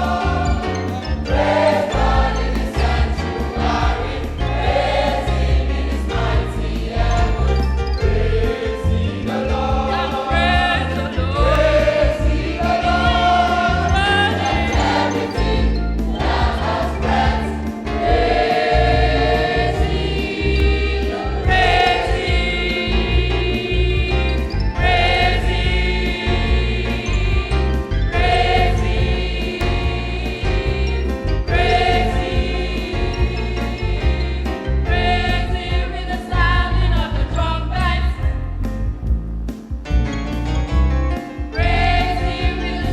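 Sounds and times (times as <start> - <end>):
choir singing gospel song: 0.0 - 38.6, 41.1 - 42.9.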